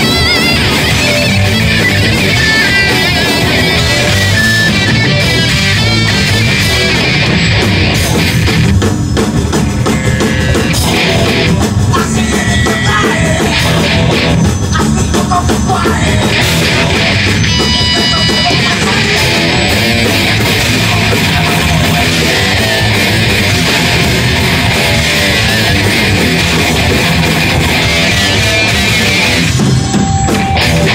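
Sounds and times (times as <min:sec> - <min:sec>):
drum kit: 0:00.0 - 0:30.9
electric guitars: 0:00.0 - 0:30.9.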